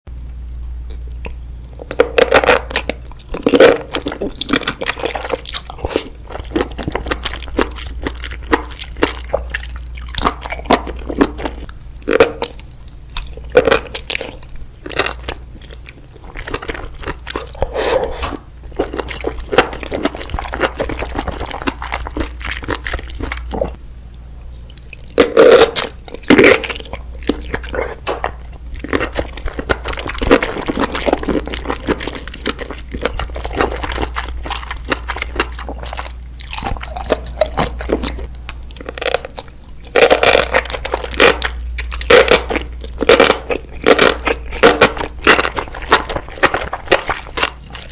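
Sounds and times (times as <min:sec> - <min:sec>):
close chewing and crunching: 0:00.9 - 0:23.8, 0:24.5 - 0:47.9.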